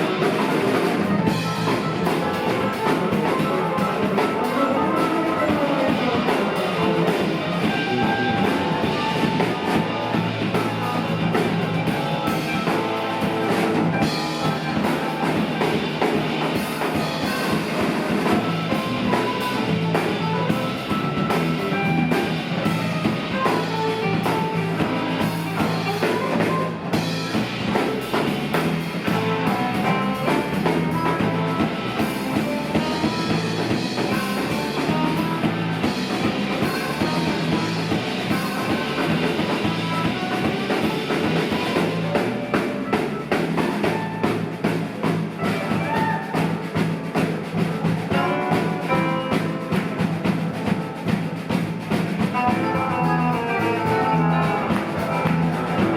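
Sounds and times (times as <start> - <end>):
bass line: 0.0 - 55.9
drum kit: 0.0 - 55.9
electric guitar lines: 0.0 - 55.9.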